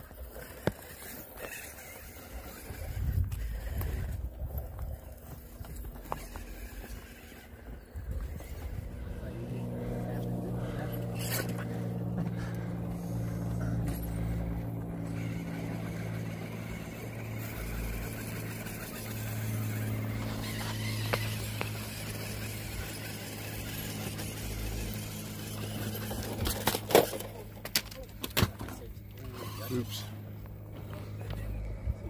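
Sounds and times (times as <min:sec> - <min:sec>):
electric motor and gears whirring: 0:00.0 - 0:32.0.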